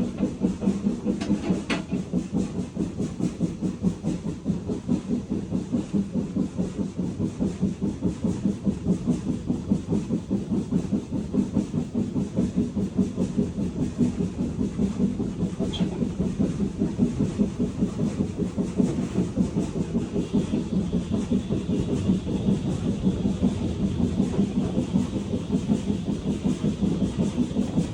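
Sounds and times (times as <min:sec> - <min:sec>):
steam train rumbling: 0:00.0 - 0:27.9.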